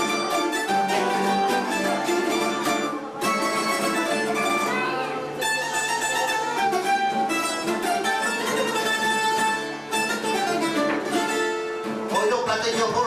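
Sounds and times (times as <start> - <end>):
plucked string trio playing: 0.0 - 13.0.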